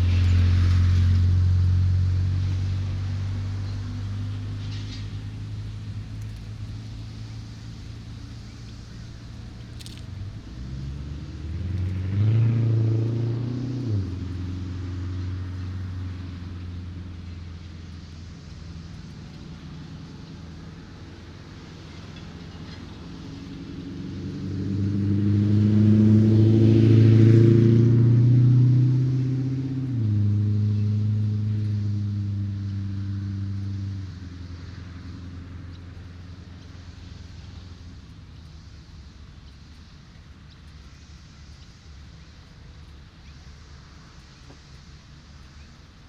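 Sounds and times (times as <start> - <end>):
vehicle driving past: 0.0 - 38.7.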